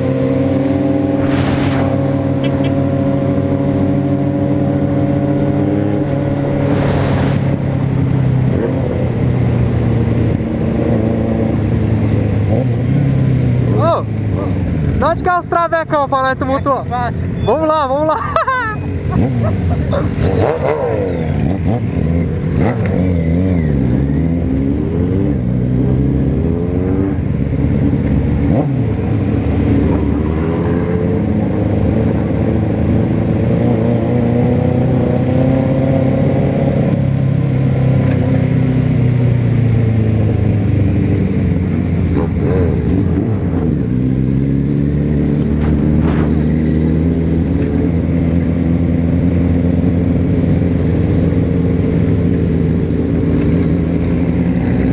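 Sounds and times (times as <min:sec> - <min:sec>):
motorcycle engine accelerating: 0:00.0 - 0:15.0, 0:18.8 - 0:54.9.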